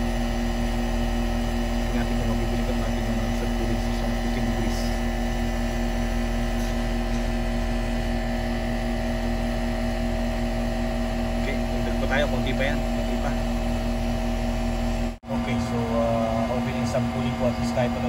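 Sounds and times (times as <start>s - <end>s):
air conditioner compressor hum: 0.0s - 18.0s
condenser fan running: 0.0s - 18.0s.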